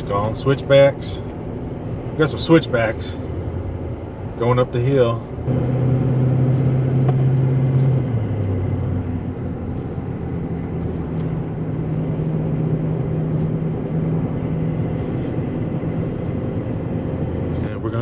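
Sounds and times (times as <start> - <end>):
road noise: 0.0 - 18.0
truck engine: 0.0 - 18.0.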